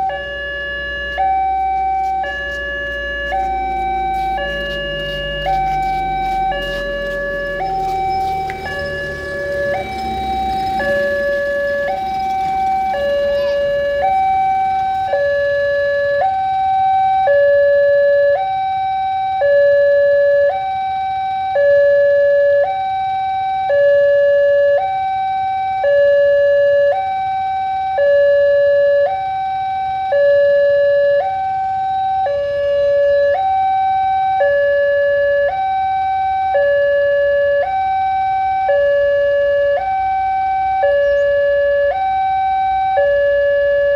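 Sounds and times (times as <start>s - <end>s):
level crossing two-tone alarm: 0.0s - 43.9s.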